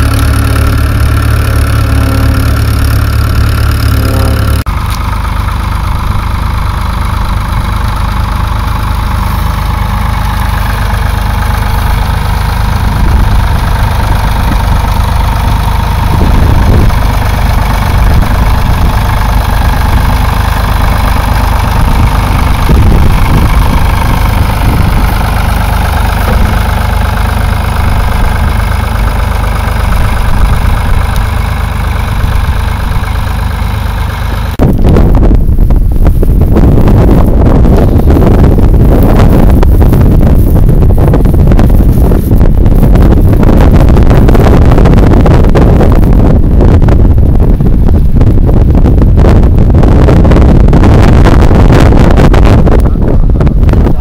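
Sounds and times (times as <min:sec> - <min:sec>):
tractor engine running under load: 0:00.0 - 0:54.0
wind rumble on microphone: 0:00.0 - 0:54.0.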